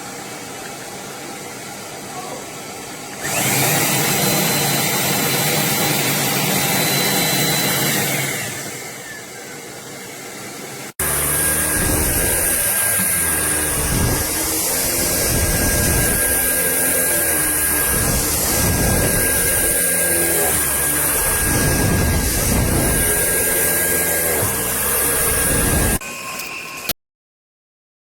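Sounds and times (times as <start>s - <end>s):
vacuum motor whine: 3.0s - 26.9s.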